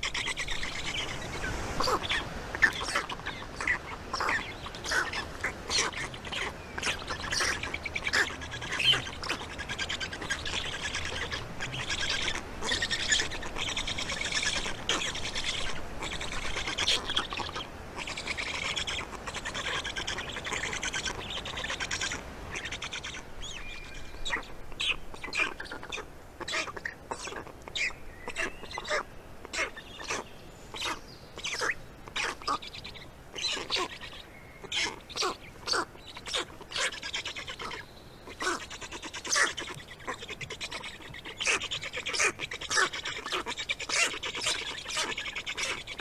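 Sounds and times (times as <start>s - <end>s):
birds chirping and calling: 0.0s - 46.0s
rapid trilling bird calls: 0.0s - 46.0s.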